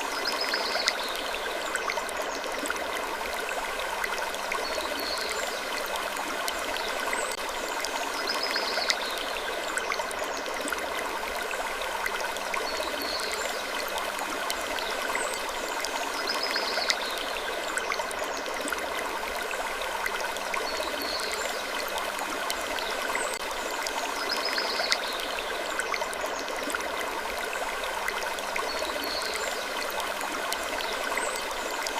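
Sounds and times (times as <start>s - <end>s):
stream-like rushing: 0.0s - 31.9s.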